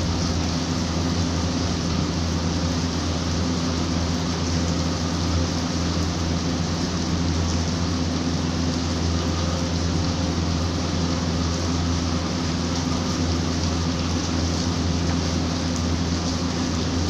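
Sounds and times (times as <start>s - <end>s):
rain on a tiled roof: 0.0s - 17.0s
steady low hum: 0.0s - 17.0s.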